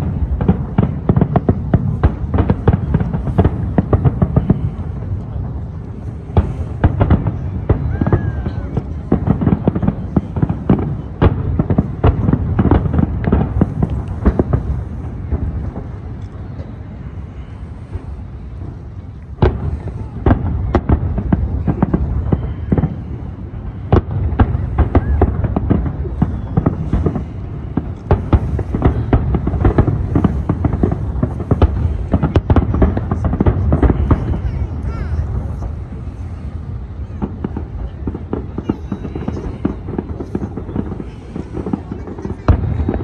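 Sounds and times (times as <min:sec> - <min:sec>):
firework bangs and cracks: 0:00.0 - 0:43.0.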